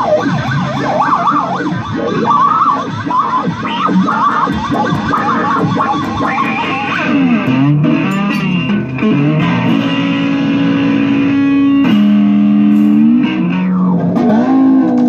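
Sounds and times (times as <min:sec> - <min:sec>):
slide electric guitar: 0:00.0 - 0:15.0.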